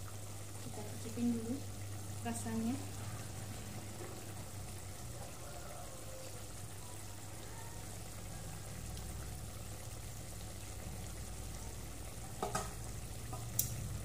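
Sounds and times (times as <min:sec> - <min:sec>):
sauce simmering in frying pan: 0:00.0 - 0:14.0.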